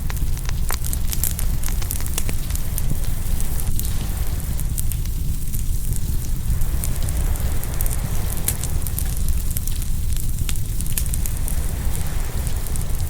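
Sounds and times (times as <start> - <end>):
surf waves rumbling: 0.0 - 13.0
wood fire crackling and popping: 0.0 - 13.0.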